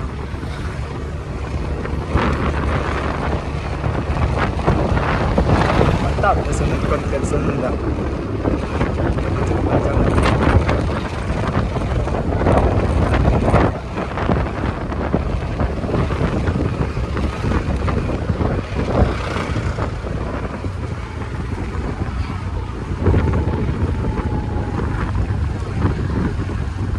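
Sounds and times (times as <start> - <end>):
road noise: 0.0 - 26.9
vehicle engine: 0.0 - 26.9
wind buffeting microphone: 0.0 - 26.9.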